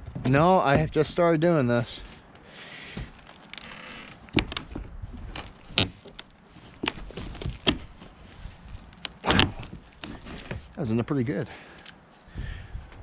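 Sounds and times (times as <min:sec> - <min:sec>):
wood scraping: 0:00.2 - 0:11.9.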